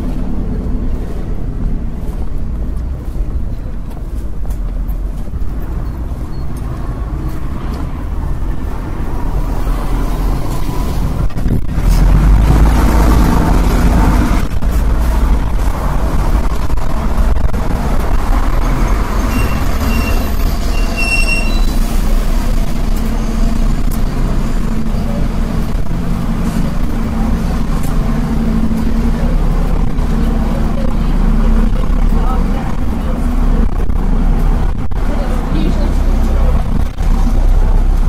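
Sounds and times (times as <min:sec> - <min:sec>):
vehicle engines rumbling: 0:00.0 - 0:38.0.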